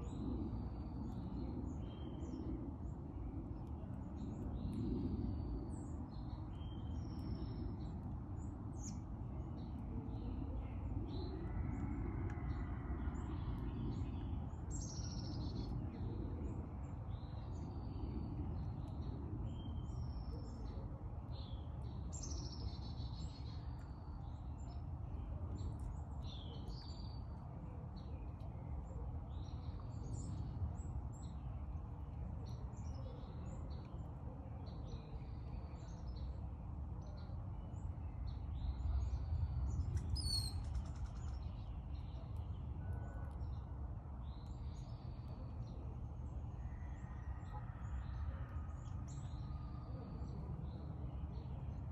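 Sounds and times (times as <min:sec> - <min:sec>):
low steady rumble: 0:00.0 - 0:51.9
songbirds chirping: 0:00.0 - 0:51.9.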